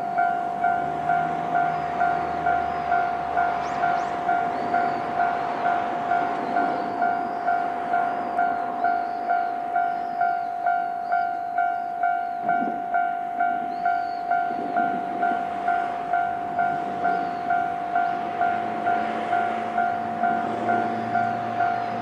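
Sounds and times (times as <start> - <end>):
level crossing alarm bell: 0.0 - 22.0.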